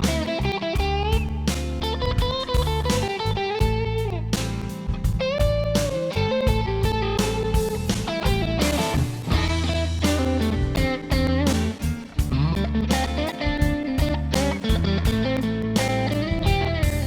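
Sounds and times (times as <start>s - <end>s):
bass and drums: 0.0s - 17.0s
electric guitar melody: 0.0s - 17.0s.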